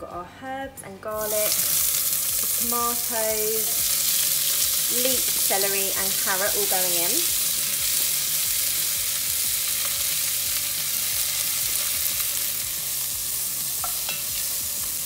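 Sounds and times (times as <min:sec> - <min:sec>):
vegetables sizzling in oil: 0:01.2 - 0:15.0.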